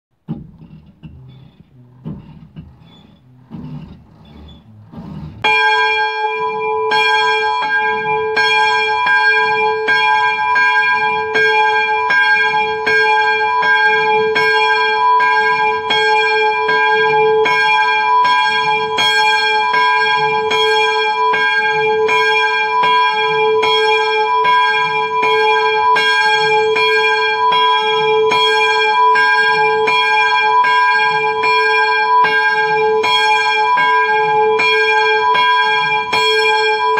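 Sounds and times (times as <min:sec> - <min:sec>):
swinging church bell ringing: 0:05.4 - 0:36.9.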